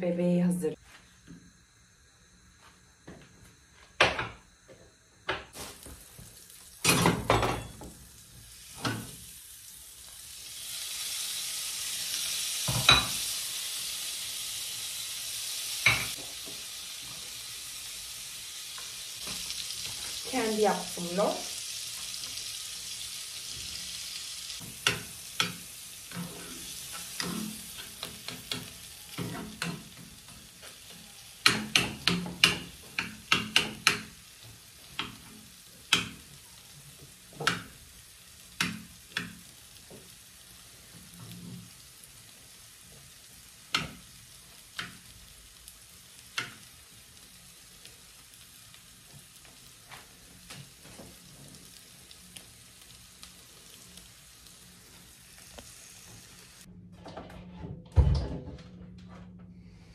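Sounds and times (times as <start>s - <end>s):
light sizzle: 0.0s - 56.7s.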